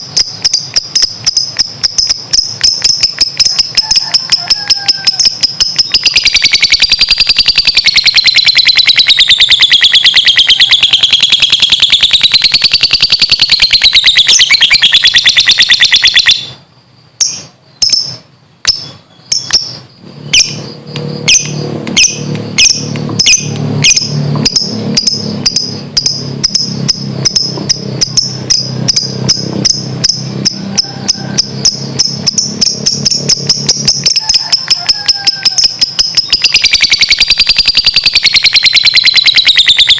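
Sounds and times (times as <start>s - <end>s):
bird chattering and chirping: 0.0s - 39.9s.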